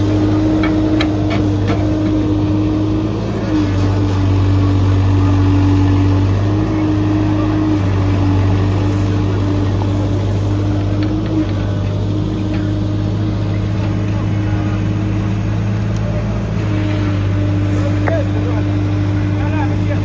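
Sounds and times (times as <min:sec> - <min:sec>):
diesel engine running steadily: 0:00.0 - 0:20.0.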